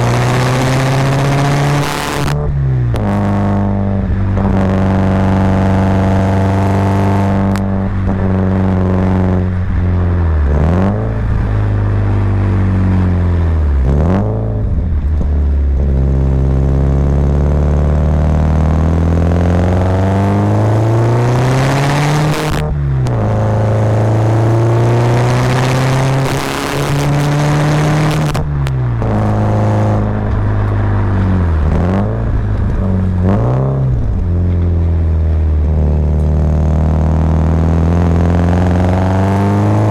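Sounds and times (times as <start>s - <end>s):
car engine revving under load: 0.0s - 39.9s.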